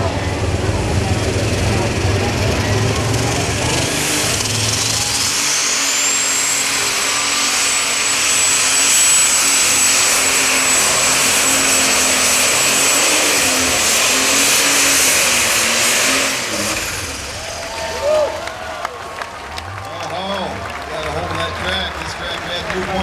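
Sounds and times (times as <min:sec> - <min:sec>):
tractor engine running flat out: 0:00.0 - 0:23.0.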